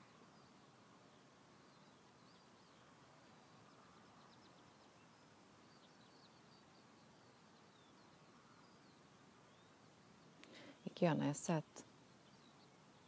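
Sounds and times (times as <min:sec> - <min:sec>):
birdsong chirps and trills: 0:00.0 - 0:13.0
low steady hiss: 0:00.0 - 0:13.0.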